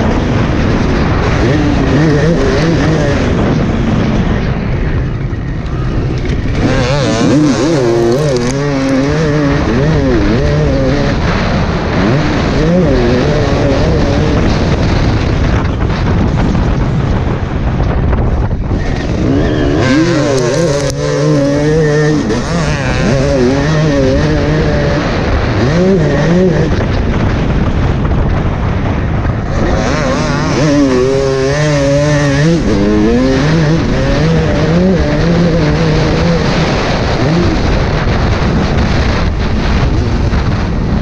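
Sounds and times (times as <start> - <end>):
motocross bike engine revving: 0.0 - 41.0.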